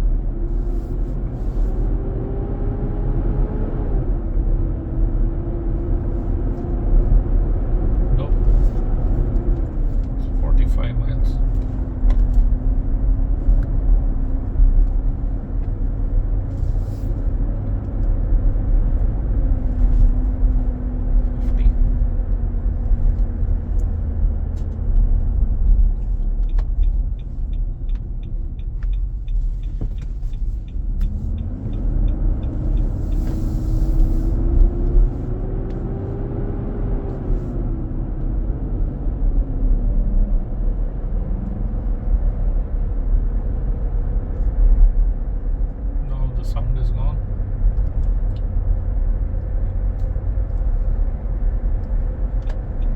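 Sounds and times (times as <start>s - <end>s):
road noise: 0.0s - 52.9s.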